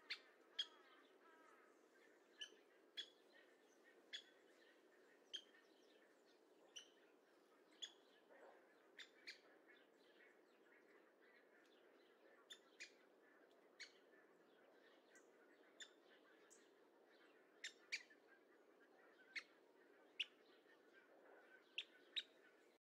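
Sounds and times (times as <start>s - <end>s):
bird chirps: 0.0s - 7.1s, 7.7s - 13.1s, 13.8s - 22.8s.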